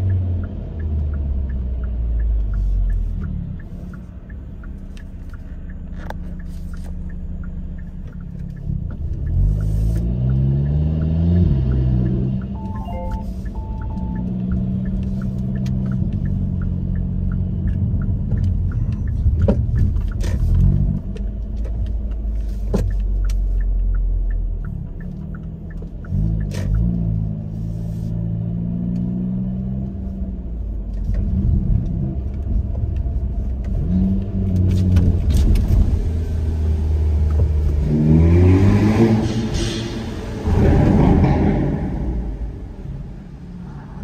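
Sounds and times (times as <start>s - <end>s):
car engine and exhaust: 0.0s - 44.0s.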